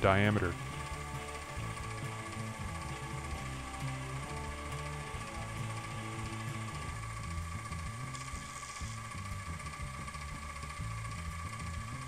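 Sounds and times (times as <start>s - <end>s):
milling machine whining: 0.0s - 12.0s.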